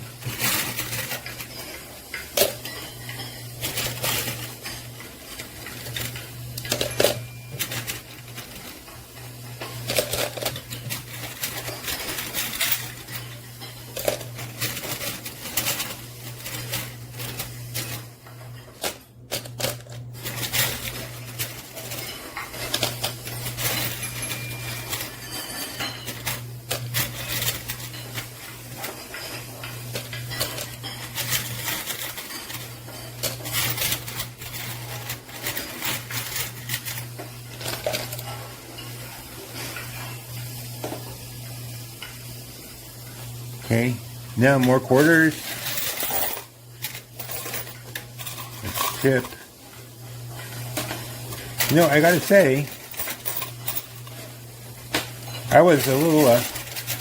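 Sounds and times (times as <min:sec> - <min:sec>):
coins clinking and clattering: 0:00.0 - 0:57.0
low machine hum: 0:00.0 - 0:57.0.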